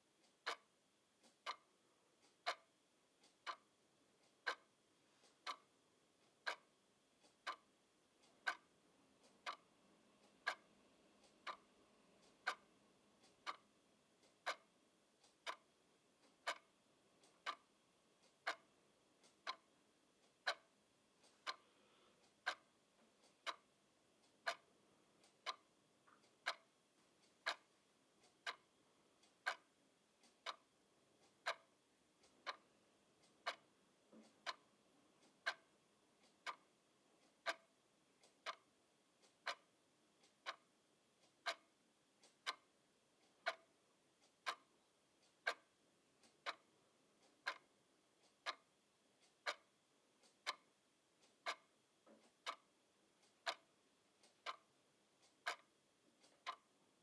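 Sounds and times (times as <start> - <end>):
mechanical clock ticking: 0.0 - 21.6, 22.2 - 57.0.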